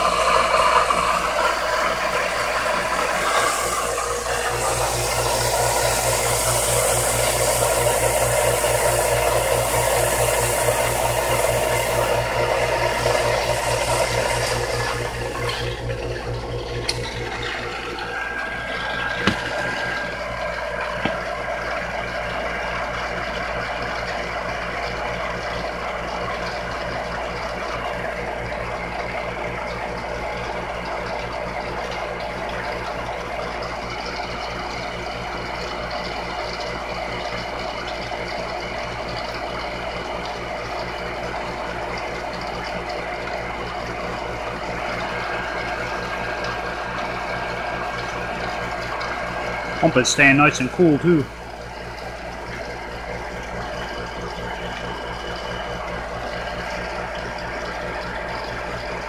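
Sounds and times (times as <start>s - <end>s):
well pump motor humming: 0.0s - 59.0s.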